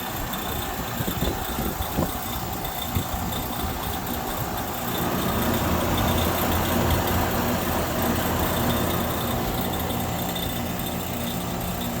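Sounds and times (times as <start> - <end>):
heat pump humming: 0.0 - 12.0
rattling clicking noise: 0.0 - 12.0.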